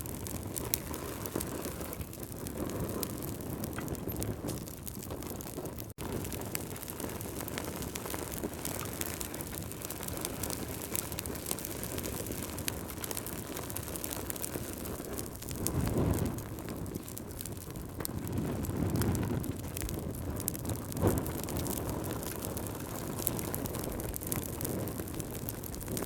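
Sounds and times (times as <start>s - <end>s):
logs crackling and popping: 0.0s - 26.0s
rush of flame: 0.0s - 26.0s.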